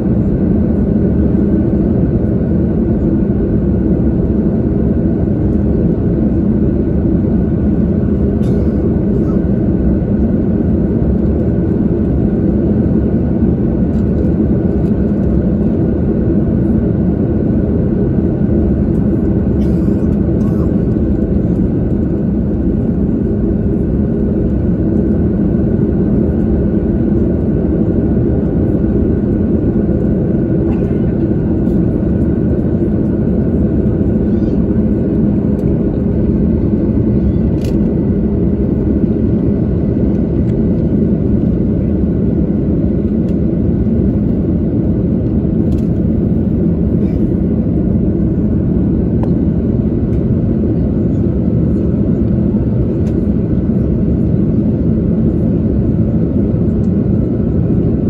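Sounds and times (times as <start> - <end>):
jet engine cabin roar: 0.0 - 58.0.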